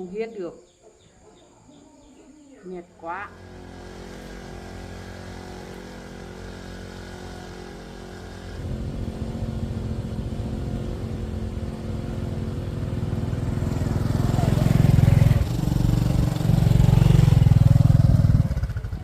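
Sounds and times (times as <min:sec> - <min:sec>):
motorbike engine running: 0:03.2 - 0:19.0.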